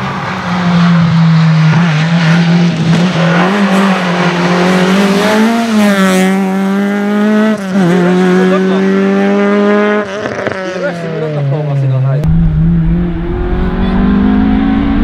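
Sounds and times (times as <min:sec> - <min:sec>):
rally car engine passing by: 0:00.0 - 0:15.0.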